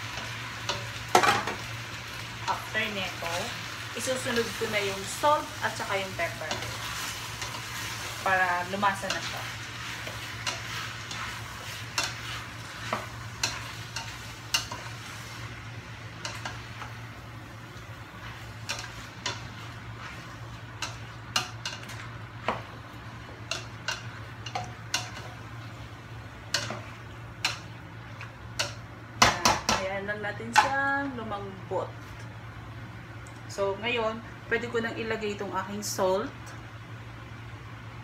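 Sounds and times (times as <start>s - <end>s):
light sizzle: 0.0s - 38.0s
steady low hum: 0.0s - 38.0s.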